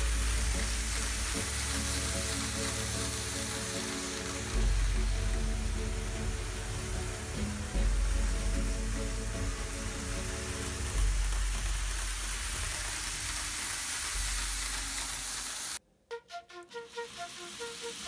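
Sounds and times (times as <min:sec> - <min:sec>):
background music melody: 0:00.0 - 0:13.1, 0:15.8 - 0:18.0
model trains running on track: 0:00.0 - 0:15.8, 0:16.9 - 0:18.0.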